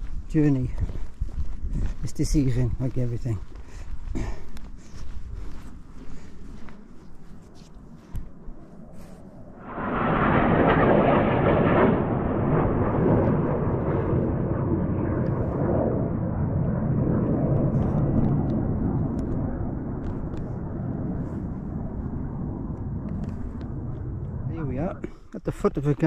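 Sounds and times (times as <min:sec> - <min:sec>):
jet aircraft passing low: 0:00.0 - 0:26.0.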